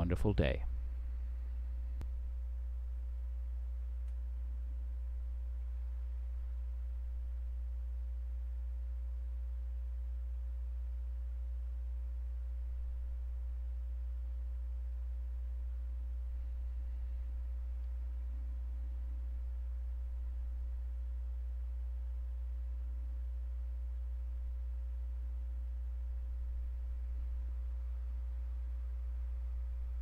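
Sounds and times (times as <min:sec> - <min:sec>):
faint steady tones: 0:00.0 - 0:30.0
low electrical hum: 0:00.0 - 0:30.0.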